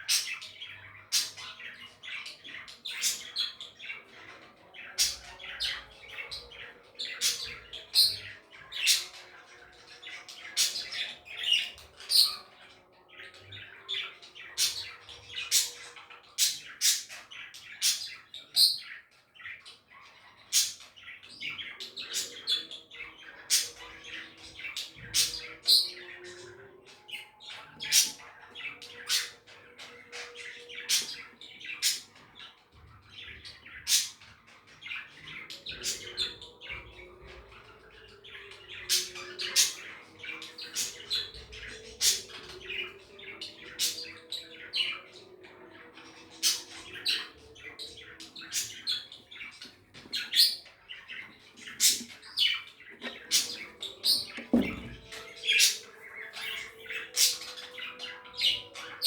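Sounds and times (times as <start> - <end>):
budgerigars chirping and squawking: 0.0 - 59.0
soft warbling chatter: 0.0 - 59.0.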